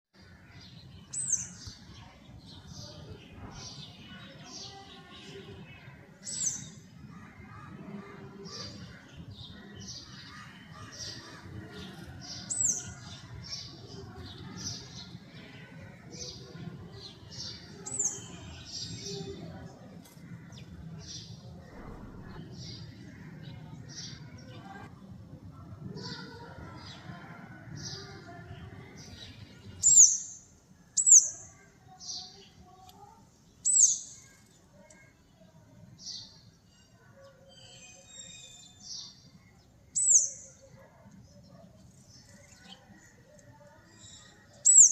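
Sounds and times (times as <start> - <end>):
sparrows chirping: 0.2 - 24.8, 26.1 - 44.9.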